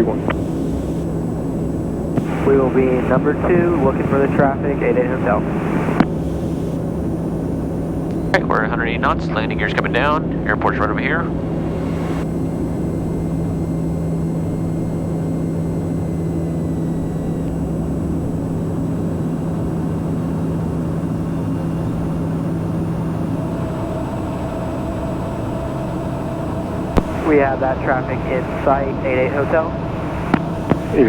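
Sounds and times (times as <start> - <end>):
strong steady hum: 0.0 - 31.0
turboprop engine drone: 0.0 - 31.0.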